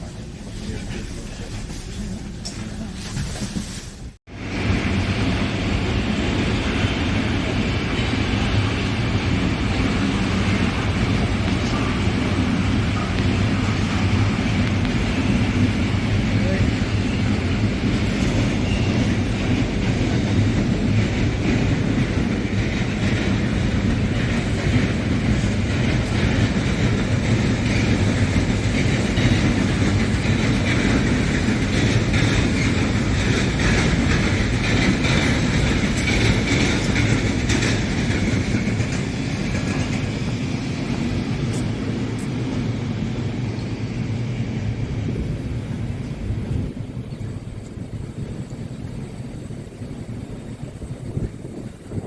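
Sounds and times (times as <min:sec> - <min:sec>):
train rumbling on track: 0:00.0 - 0:52.0.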